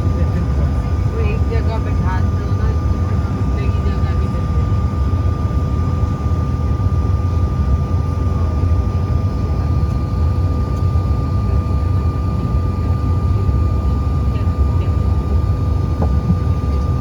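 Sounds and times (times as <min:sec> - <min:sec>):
jet cabin low rumble: 0:00.0 - 0:17.0.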